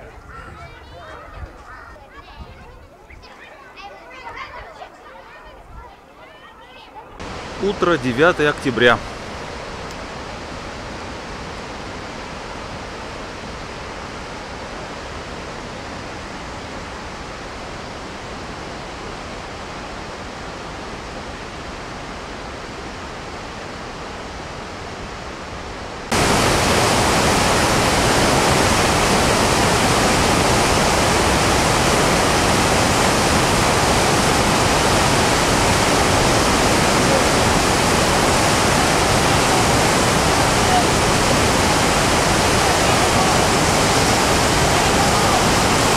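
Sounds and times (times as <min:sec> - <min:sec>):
river rapids rushing: 0:07.2 - 0:45.9.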